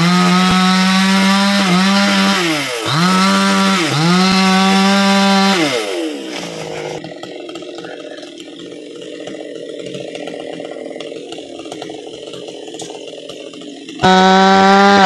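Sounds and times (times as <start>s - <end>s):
chainsaw cutting wood: 0.0s - 15.0s
chainsaw idling: 0.0s - 15.0s.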